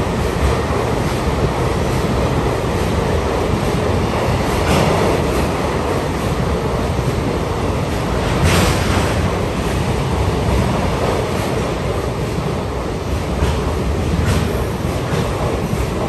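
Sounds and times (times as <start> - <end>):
electric train rumble: 0.0 - 16.0
steady rushing noise: 0.0 - 16.0
wind buffeting microphone: 0.0 - 16.0.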